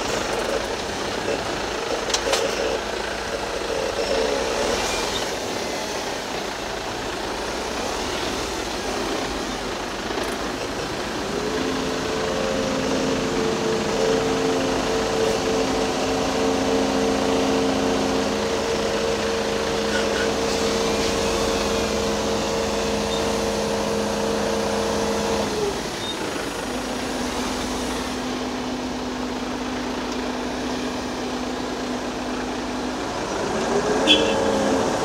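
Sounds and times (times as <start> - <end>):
excavator diesel engine running: 0.0 - 35.0
truck diesel engines running: 0.0 - 35.0.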